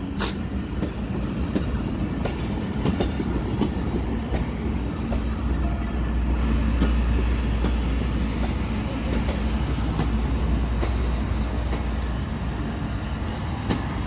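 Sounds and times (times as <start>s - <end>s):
train coaches rumbling: 0.0s - 14.0s
wheels clacking over rail joints: 0.2s - 12.6s, 13.2s - 14.0s.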